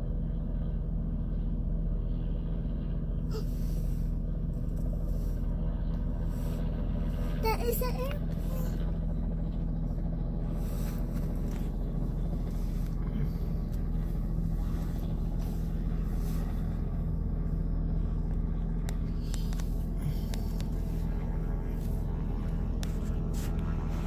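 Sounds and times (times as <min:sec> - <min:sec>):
helicopter rotor drone: 0:00.0 - 0:24.0.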